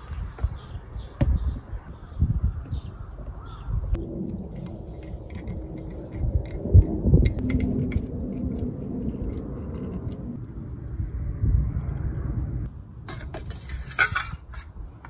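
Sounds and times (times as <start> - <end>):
steady low rumble: 0.8 - 14.9.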